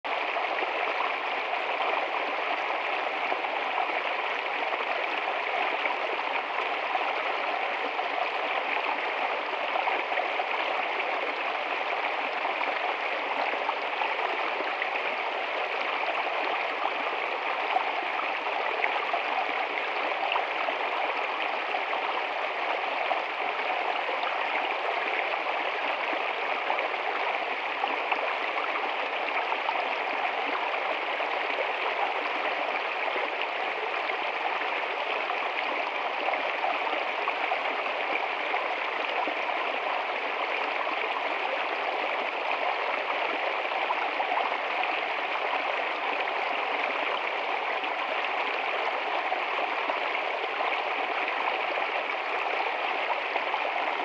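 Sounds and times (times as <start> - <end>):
stream gurgling over stones: 0.1 - 54.0.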